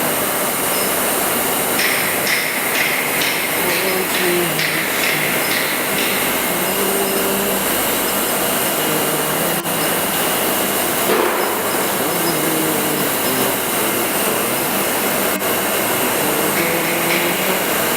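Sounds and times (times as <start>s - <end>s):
factory machinery din: 0.0s - 17.9s
faint steady hum: 0.0s - 17.9s.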